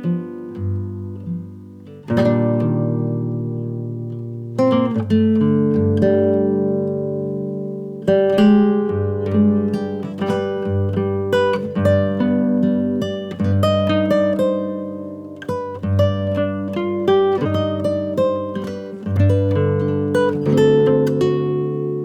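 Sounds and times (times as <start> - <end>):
plucked acoustic guitar melody: 0.0 - 22.0.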